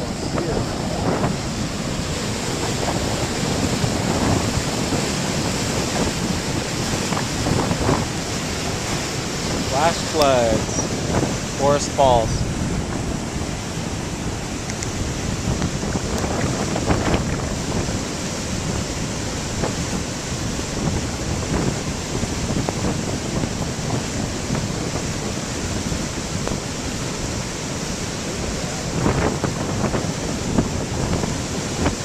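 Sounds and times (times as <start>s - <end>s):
floodwater rushing down a creek: 0.0s - 32.0s.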